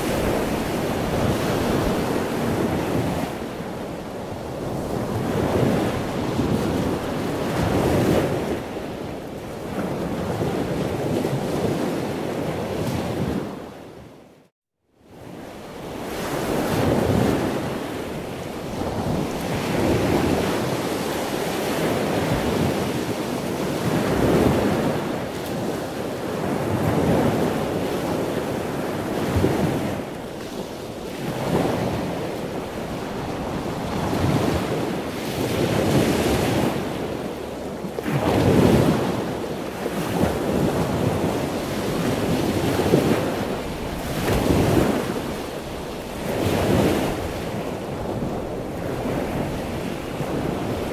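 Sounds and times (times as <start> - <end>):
wind rushing over microphone: 0.0 - 14.4, 15.1 - 50.9.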